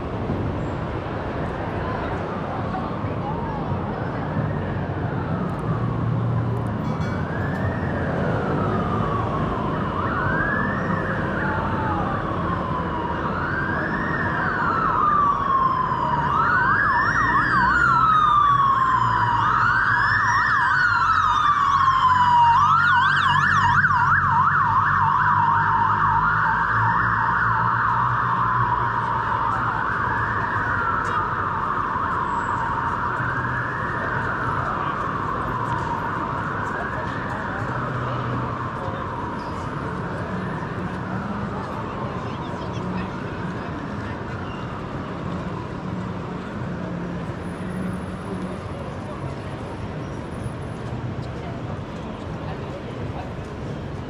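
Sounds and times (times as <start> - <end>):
emergency vehicle siren wailing: 0.0 - 54.0
low traffic rumble: 0.0 - 54.0.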